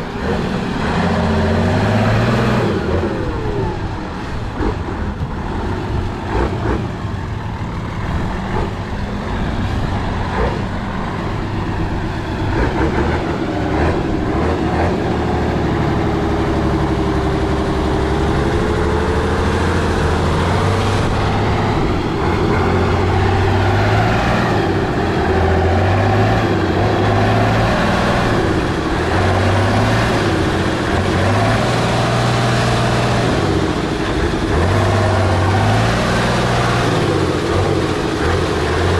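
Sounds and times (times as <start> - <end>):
diesel truck engine revving: 0.0 - 38.9.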